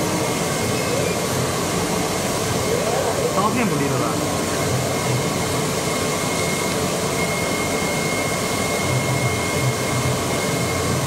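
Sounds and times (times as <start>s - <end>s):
thin high whine: 0.0s - 11.0s.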